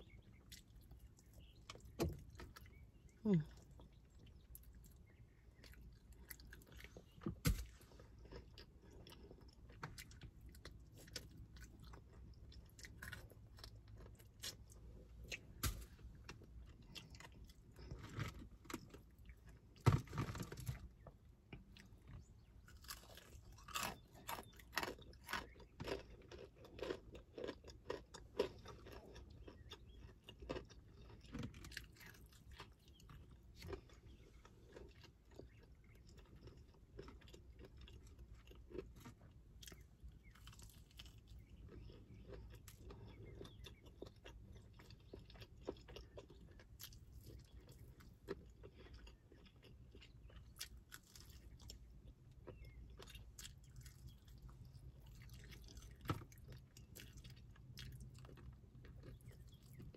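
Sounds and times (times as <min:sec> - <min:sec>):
chewing and crunching fried chicken: 0:00.0 - 0:59.9.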